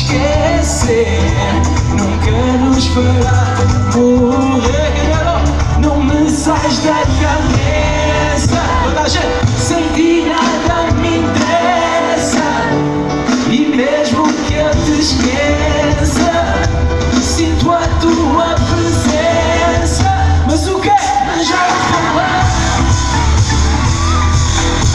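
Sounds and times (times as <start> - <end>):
drums steady beat: 0.0 - 24.9
live pop-rock band: 0.0 - 24.9
person singing: 0.0 - 24.9.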